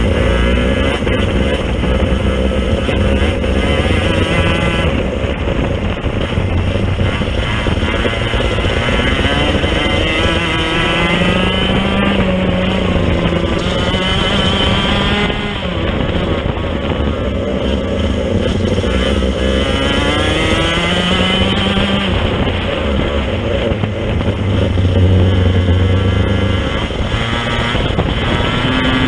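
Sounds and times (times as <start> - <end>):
go-kart engine at high revs: 0.0 - 29.0.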